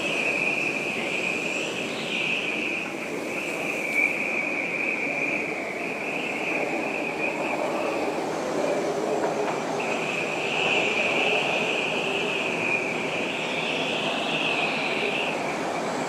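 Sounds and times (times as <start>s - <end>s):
high wavering wind whistle: 0.0s - 16.0s
strong wind rushing: 0.0s - 16.0s.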